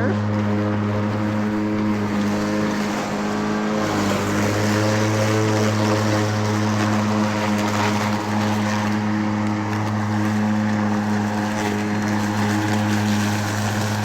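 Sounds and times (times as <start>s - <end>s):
electric lawn mower humming: 0.0s - 14.0s
mower blade whirring: 0.0s - 14.0s.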